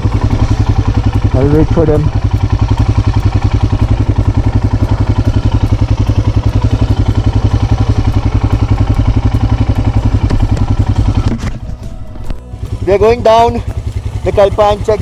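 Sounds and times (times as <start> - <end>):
single-cylinder engine idling: 0.0 - 15.0.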